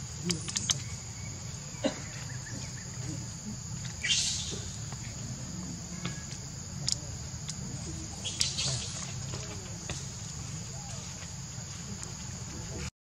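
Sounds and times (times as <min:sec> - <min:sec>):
insect chorus: 0:00.0 - 0:12.9.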